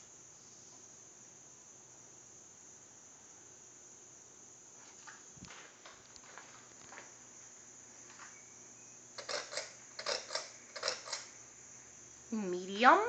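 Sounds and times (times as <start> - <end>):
faint steady fan hum: 0.0 - 13.0.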